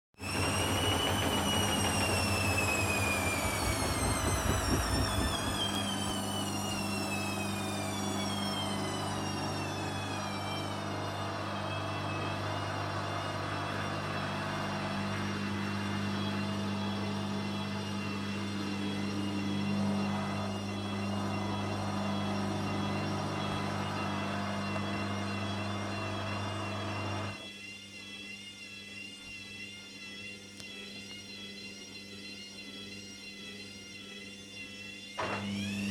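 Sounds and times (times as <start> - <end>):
washing machine motor whine: 0.2 - 35.9.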